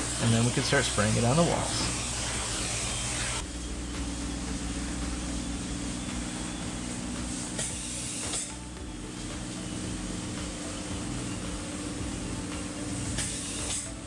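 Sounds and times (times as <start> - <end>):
low mechanical hum: 0.0 - 14.0
spray foam gun hissing: 0.0 - 14.0.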